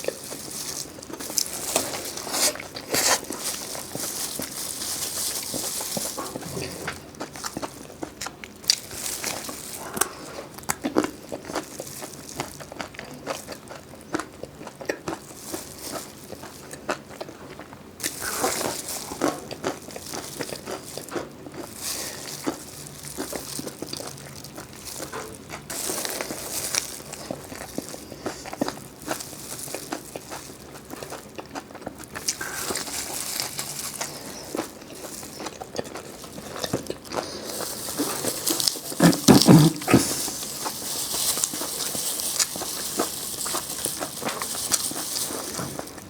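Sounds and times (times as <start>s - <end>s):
chewing crisp food: 0.0s - 46.0s.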